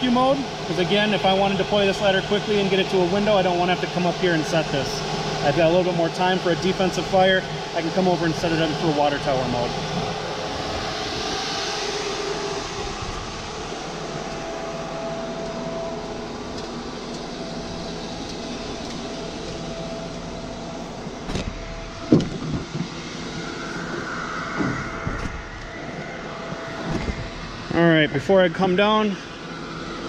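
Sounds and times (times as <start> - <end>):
faint steady whine: 0.0 - 30.0
truck engine running: 0.0 - 30.0.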